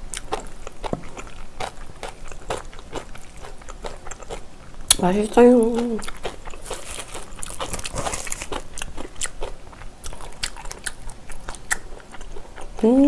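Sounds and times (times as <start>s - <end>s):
person chewing and biting: 0.1s - 5.0s, 5.8s - 12.7s.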